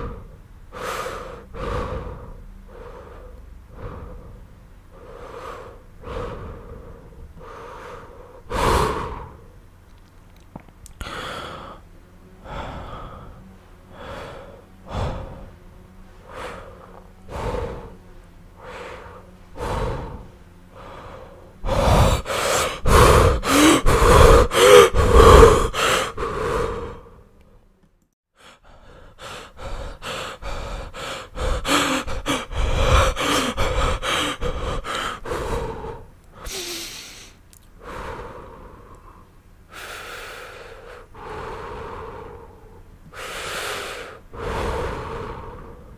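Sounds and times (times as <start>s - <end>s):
man breathing laboriously and gasping: 0.0s - 9.7s, 10.9s - 27.4s, 28.3s - 45.9s.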